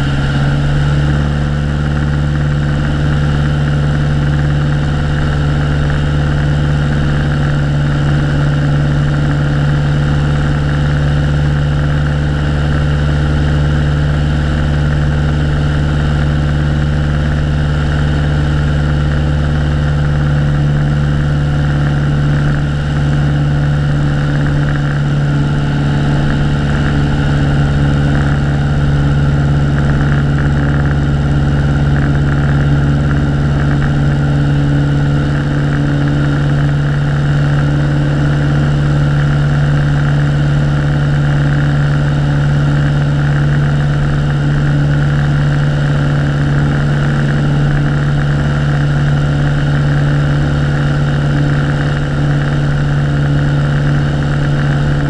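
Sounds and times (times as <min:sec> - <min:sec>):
plane engine and propeller droning: 0:00.0 - 0:55.0.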